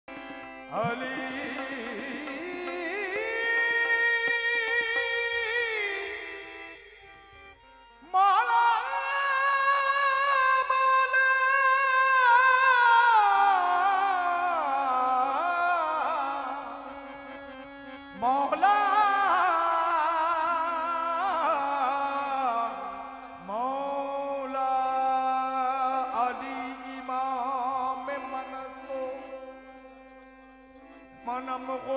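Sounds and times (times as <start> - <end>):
harmonium drone: 0.0 - 31.9
person singing gliding phrases: 0.2 - 6.8, 8.0 - 17.5, 18.1 - 29.9.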